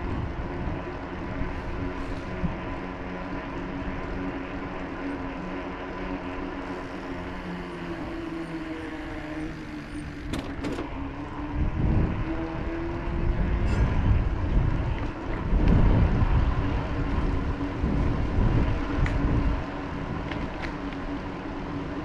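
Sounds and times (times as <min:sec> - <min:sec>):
motor hum: 0:00.0 - 0:22.0
outdoor background noise: 0:00.0 - 0:22.0
wind rumbling on microphone: 0:00.0 - 0:22.0.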